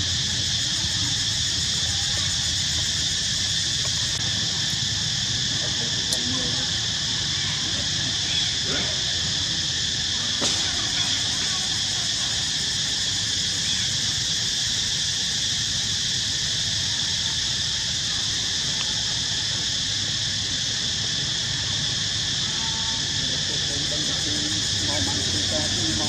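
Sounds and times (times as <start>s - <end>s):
insect chorus droning: 0.0s - 26.0s.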